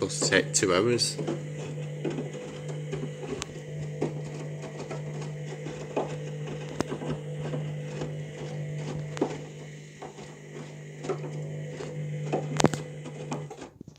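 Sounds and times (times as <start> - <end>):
washing machine motor humming: 0.0 - 13.8.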